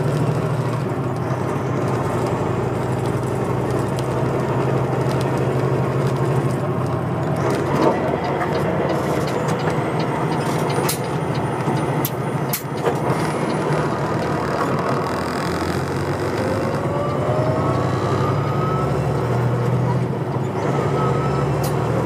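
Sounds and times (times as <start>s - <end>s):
diesel truck engine running: 0.0s - 22.0s
road noise: 0.0s - 22.0s.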